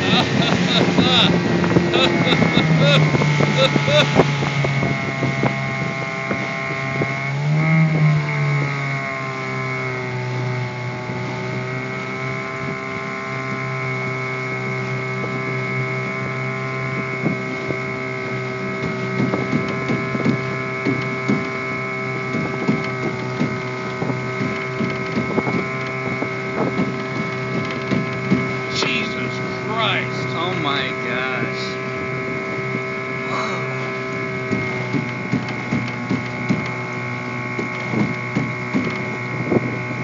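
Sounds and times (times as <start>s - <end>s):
small boat engine humming: 0.0s - 40.0s.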